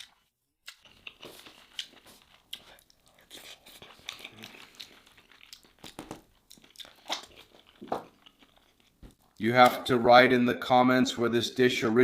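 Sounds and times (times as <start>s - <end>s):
person chewing and smacking: 0.0s - 9.9s.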